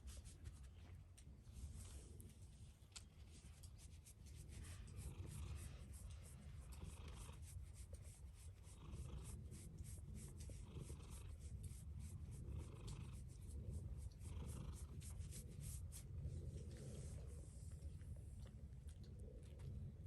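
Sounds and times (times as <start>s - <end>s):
cat purring: 0.1s - 20.0s.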